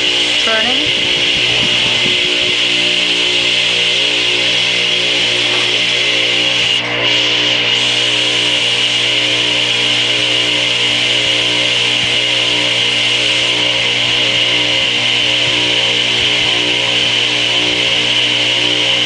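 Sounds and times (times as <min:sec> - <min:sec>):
table saw motor humming with whine: 0:00.0 - 0:19.0.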